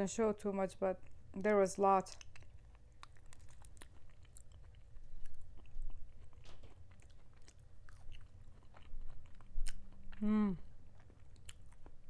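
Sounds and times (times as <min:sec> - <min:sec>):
person chewing and biting food: 0:02.1 - 0:12.0.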